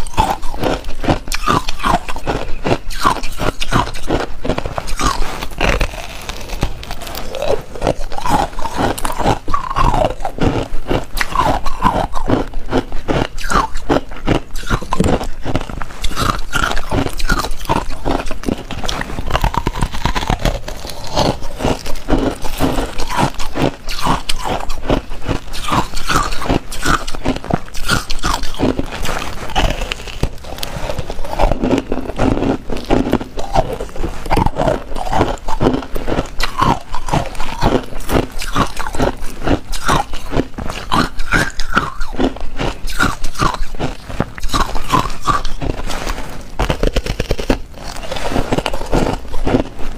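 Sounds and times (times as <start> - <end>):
ice crunching between teeth: 0.0 - 49.9
wet mouth sounds: 0.0 - 49.9.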